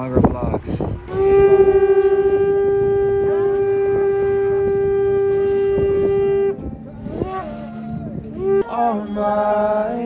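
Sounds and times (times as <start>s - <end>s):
shofar long steady note: 1.0s - 9.8s.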